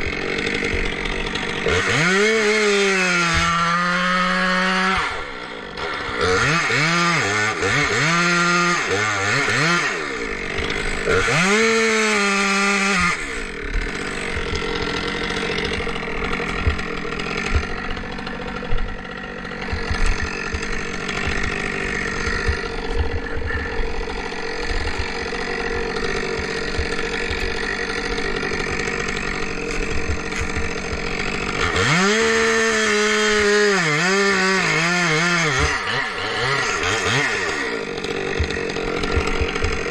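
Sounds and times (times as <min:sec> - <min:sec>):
chainsaw cutting through wood: 0:00.0 - 0:39.9
chainsaw revving: 0:00.0 - 0:39.9.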